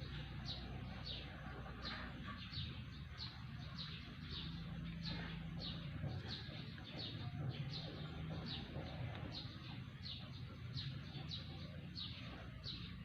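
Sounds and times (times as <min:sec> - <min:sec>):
bird chirping: 0:00.0 - 0:13.0
low steady hum: 0:00.0 - 0:13.0.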